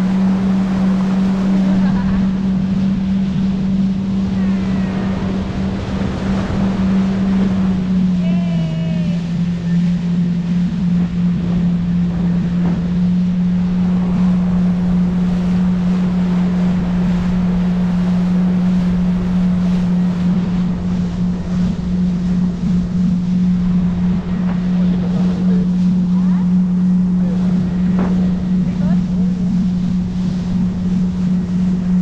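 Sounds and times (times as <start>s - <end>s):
jet ski engine running: 0.0s - 32.0s
water rushing: 0.0s - 32.0s
wind rumbling on microphone: 0.0s - 32.0s.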